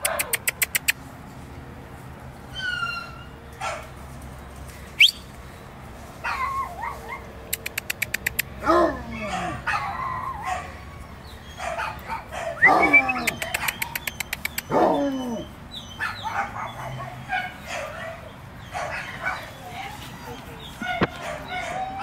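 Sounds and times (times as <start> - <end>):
dogs barking and yelping: 0.0 - 1.0, 2.5 - 4.0, 6.2 - 22.0.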